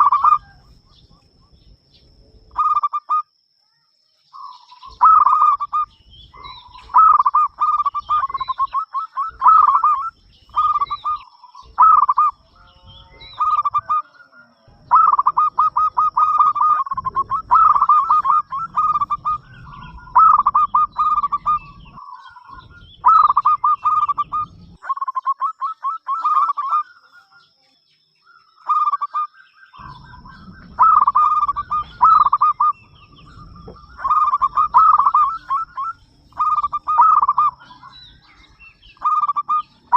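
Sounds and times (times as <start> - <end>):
dove cooing: 0.0 - 3.2, 4.4 - 27.5, 28.6 - 39.9.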